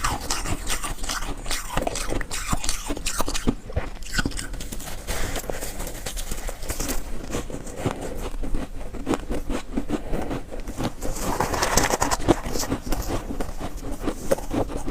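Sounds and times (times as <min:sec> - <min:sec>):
chewing shaved ice: 0:00.0 - 0:14.9.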